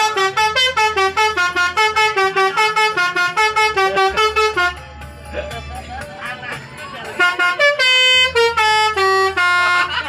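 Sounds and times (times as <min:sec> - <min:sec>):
multi-tone bus horn tune: 0:00.0 - 0:05.2, 0:07.0 - 0:10.0.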